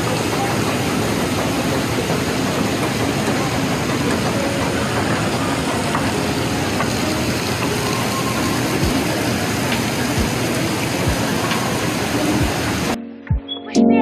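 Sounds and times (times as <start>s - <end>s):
distant voices: 0.0s - 13.0s
shopping mall rushing noise: 0.0s - 13.0s.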